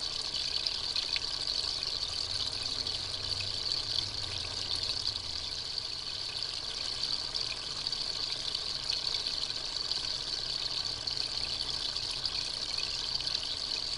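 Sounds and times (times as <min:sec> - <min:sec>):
running water trickling: 0:00.0 - 0:13.9.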